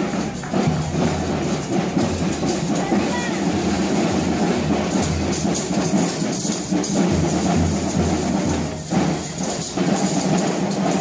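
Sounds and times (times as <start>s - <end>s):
parade music with drums: 0.0s - 11.0s.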